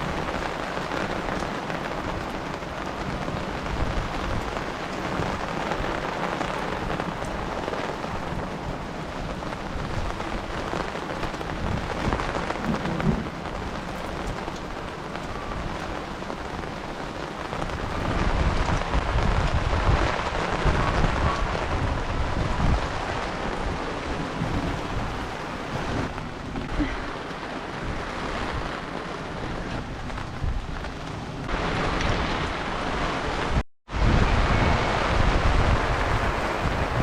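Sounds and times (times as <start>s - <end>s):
heavy rain pouring: 0.0s - 37.0s.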